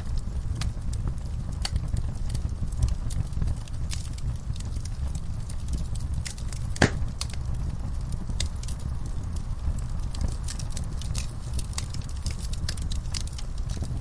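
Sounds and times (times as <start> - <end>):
fire crackling in a fireplace: 0.0 - 14.0.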